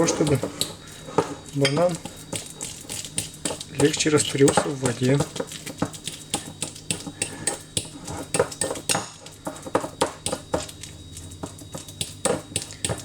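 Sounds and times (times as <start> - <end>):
fork mashing banana in a dish: 0.0 - 13.0.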